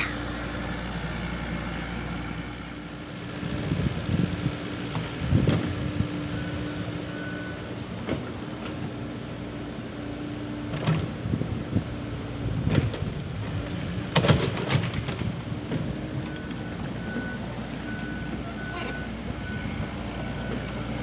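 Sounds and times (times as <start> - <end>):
excavator engine drone: 0.0 - 21.0.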